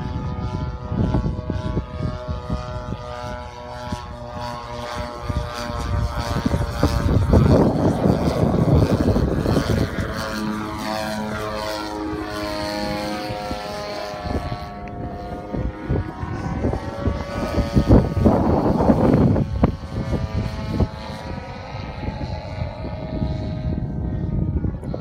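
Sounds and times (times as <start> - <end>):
model plane engine in flight: 0.0 - 25.0.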